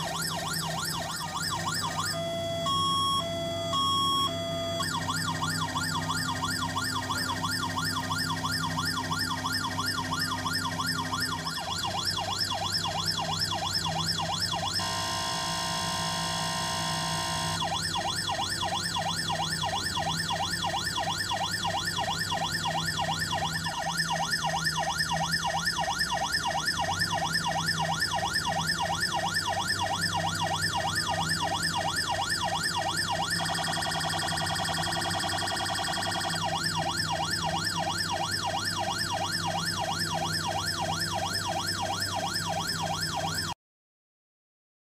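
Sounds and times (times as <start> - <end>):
toy electronic siren: 0.0 - 43.6.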